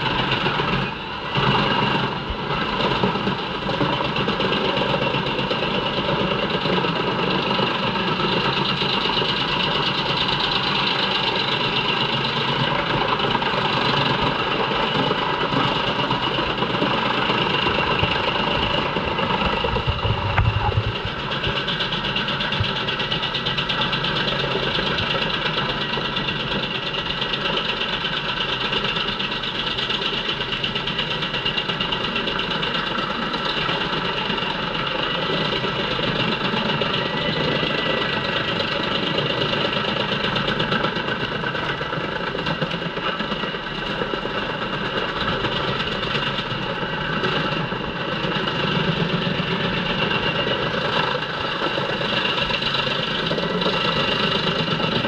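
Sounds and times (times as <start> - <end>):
wood chipper running: 0.0 - 55.0.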